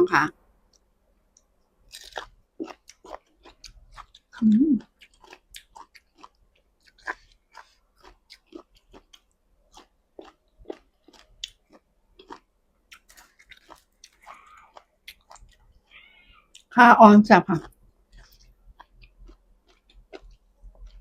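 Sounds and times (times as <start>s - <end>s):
person chewing food: 0.7s - 16.7s, 17.6s - 21.0s.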